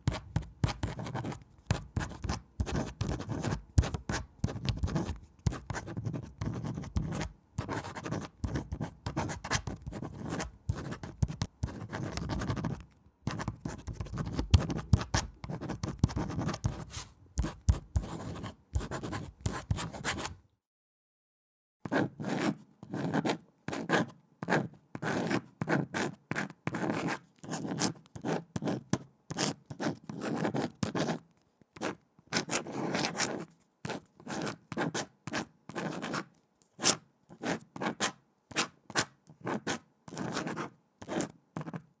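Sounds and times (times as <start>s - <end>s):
pen scratching on paper: 0.0s - 20.4s, 21.9s - 41.9s.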